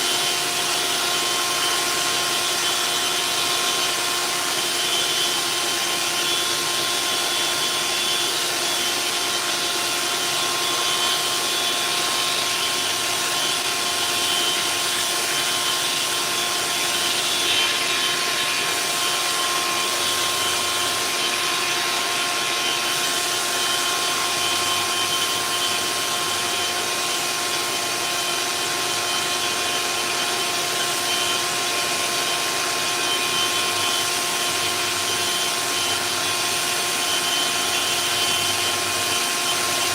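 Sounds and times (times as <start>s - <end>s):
orbital sander motor whine: 0.0s - 39.9s.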